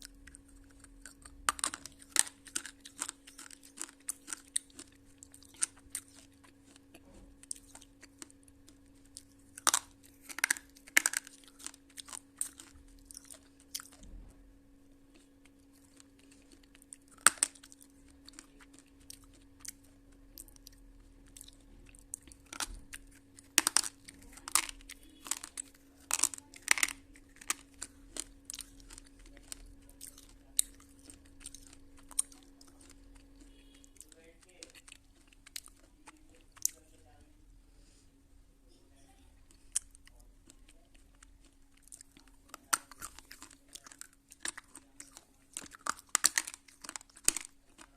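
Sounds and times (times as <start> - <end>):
slate pencils crunched by chewing: 0.0 - 14.1, 15.1 - 37.0, 39.5 - 47.9
faint steady hum: 0.0 - 47.9.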